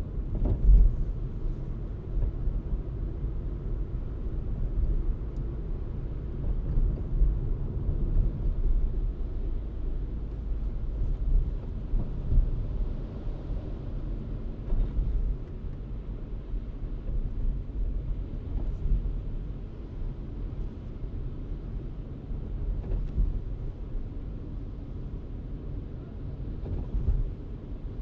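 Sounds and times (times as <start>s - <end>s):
car driving rumble: 0.0s - 25.6s.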